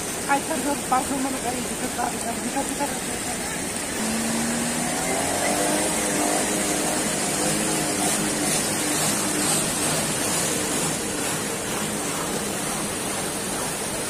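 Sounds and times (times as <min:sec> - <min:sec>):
faint engine hum: 0:00.0 - 0:14.0
floodwater rushing and splashing: 0:00.0 - 0:14.0.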